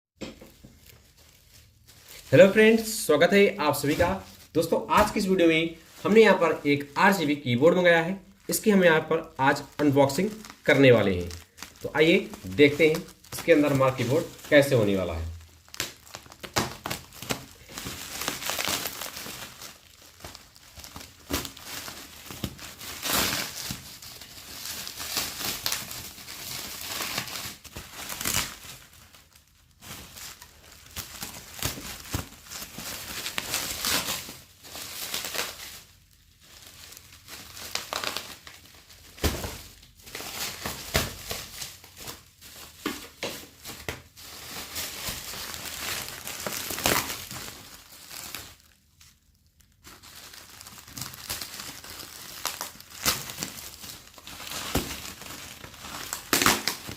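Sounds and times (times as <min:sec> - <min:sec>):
packaging crinkling and rustling: 0:00.2 - 0:56.9.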